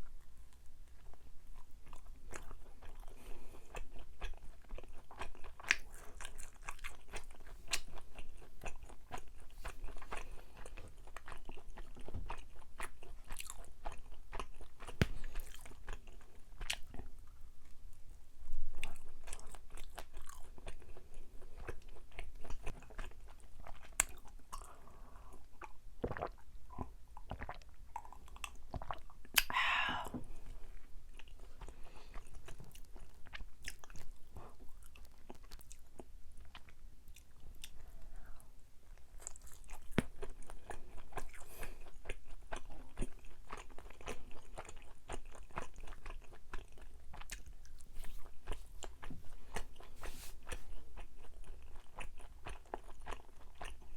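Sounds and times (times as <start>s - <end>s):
chewing sticky food: 0.0s - 53.9s.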